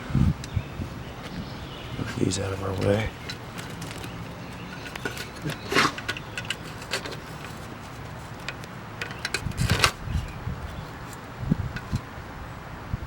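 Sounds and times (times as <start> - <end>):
small handling clicks and rustles: 0.4 - 12.0
loud rustling scrapes: 0.8 - 12.0.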